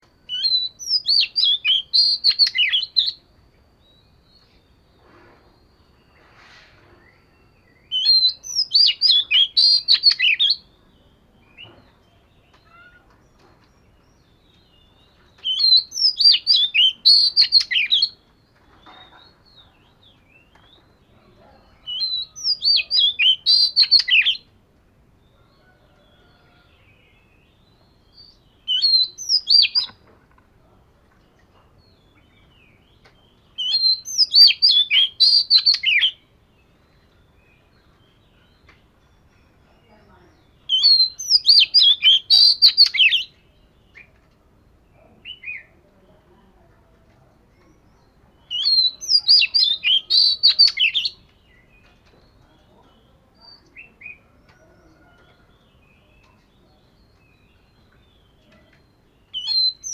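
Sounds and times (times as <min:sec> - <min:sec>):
bird singing whistled notes: 0:00.1 - 0:06.3, 0:06.9 - 0:24.6, 0:25.2 - 0:30.0, 0:31.8 - 0:45.8, 0:47.5 - 0:59.9.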